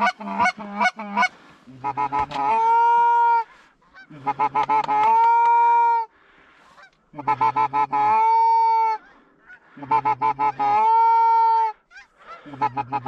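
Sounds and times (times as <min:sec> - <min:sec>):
goose call clucks and drawn-out note: 0:00.0 - 0:06.1, 0:06.7 - 0:13.0.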